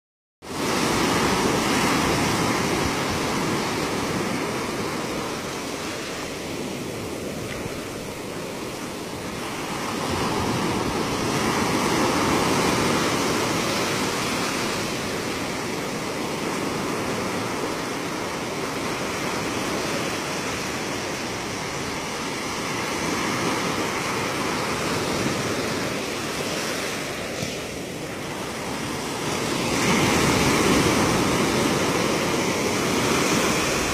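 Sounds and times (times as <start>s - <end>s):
ocean surf breaking on beach: 0.4s - 33.9s.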